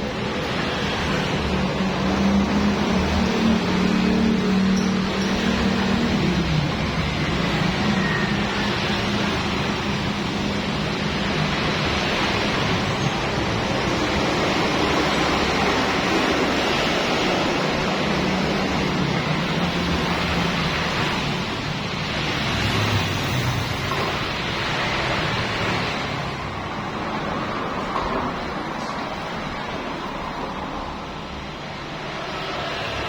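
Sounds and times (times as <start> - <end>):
spraying water rushing: 0.0 - 33.0.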